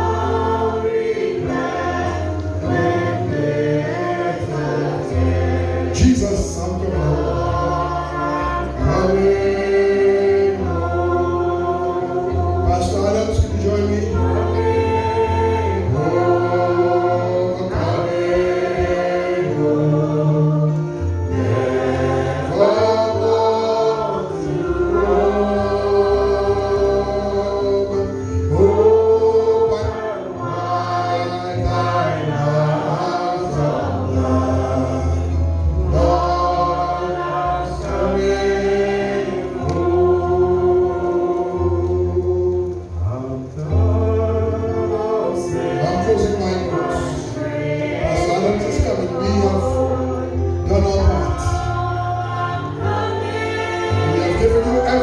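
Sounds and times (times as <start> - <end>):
choir and congregation singing hymn: 0.0 - 55.0.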